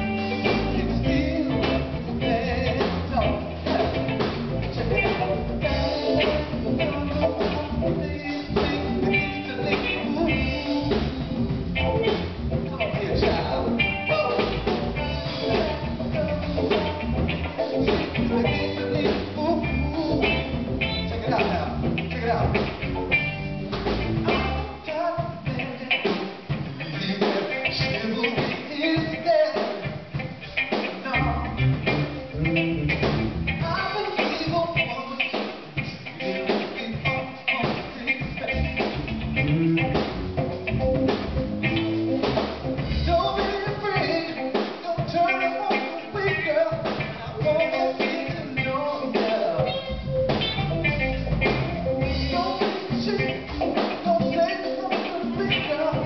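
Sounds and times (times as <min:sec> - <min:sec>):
jazz band playing: 0:00.0 - 0:28.6, 0:30.0 - 0:35.0, 0:35.7 - 0:56.0
drums keeping a beat: 0:00.0 - 0:56.0.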